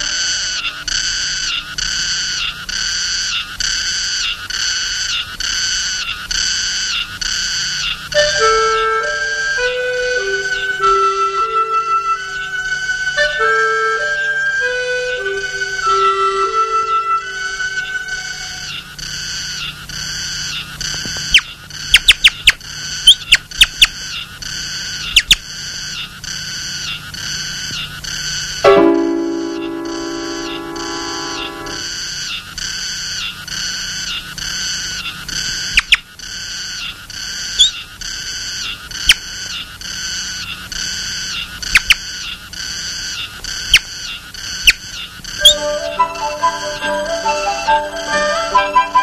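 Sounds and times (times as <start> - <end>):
bird chirping: 0.0 - 32.5, 33.1 - 36.0, 37.6 - 39.7, 40.3 - 49.0
cicada buzzing call: 0.0 - 49.0.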